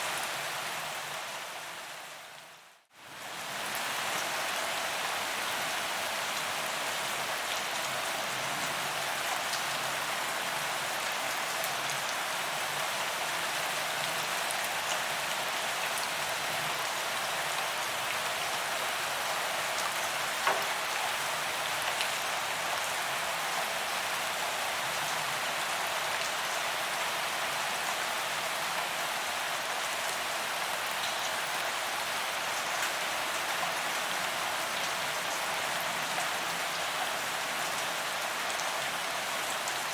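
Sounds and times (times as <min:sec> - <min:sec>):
rain on pavement: 0:00.1 - 0:39.9.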